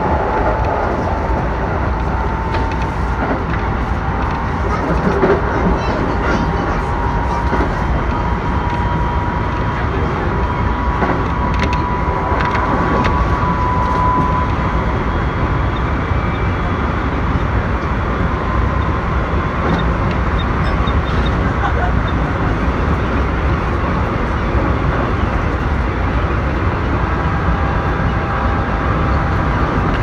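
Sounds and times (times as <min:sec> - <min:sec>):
train rumble from inside: 0:00.0 - 0:30.0.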